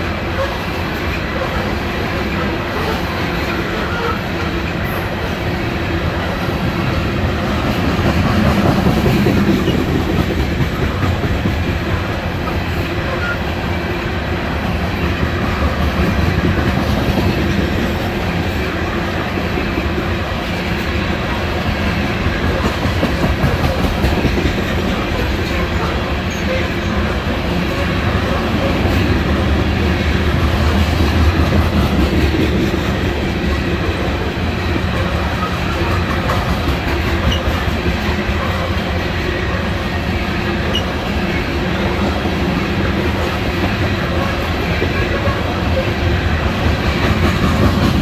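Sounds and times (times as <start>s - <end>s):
coal train rumbling past: 0.0s - 48.0s.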